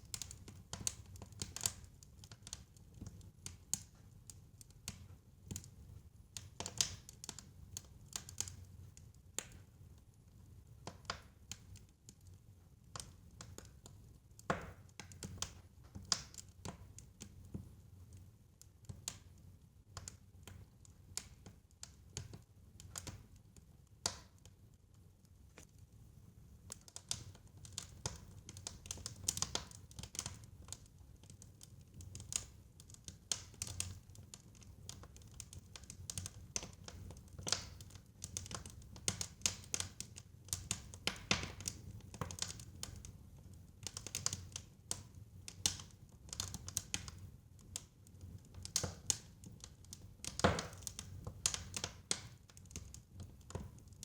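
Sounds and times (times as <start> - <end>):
fire crackling: 0.0 - 10.0, 10.8 - 54.0.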